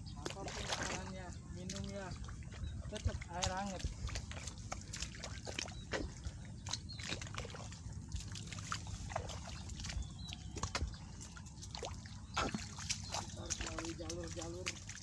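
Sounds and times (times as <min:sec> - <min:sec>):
footsteps on muddy ground: 0:00.1 - 0:15.0.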